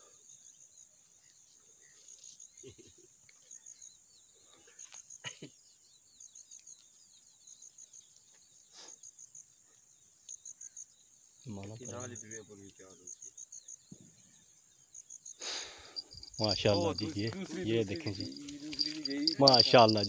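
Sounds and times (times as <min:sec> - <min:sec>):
birds twittering: 0:00.0 - 0:20.0
insect chirping: 0:00.0 - 0:20.0.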